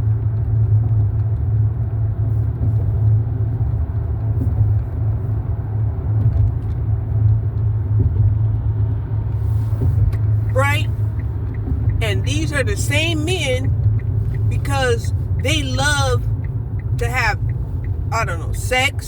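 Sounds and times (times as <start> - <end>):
car road noise rumble: 0.0 - 19.0.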